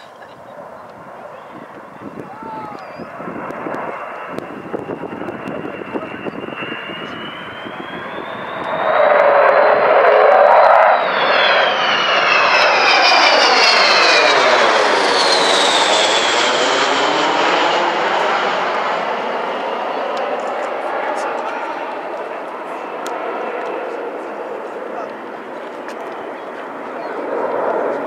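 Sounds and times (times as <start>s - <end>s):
high jet whine: 0.0s - 28.0s
jet aircraft roaring overhead: 0.0s - 28.0s.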